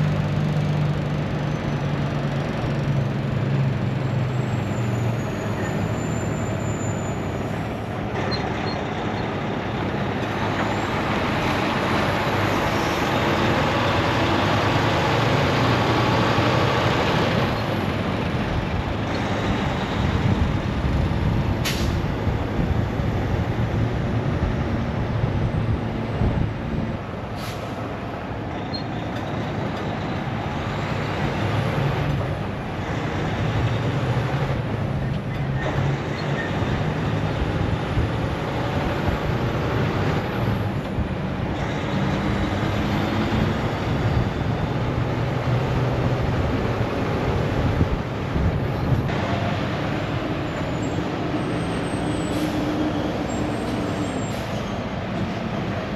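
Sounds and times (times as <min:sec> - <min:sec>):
road and wind noise: 0:00.0 - 0:55.9.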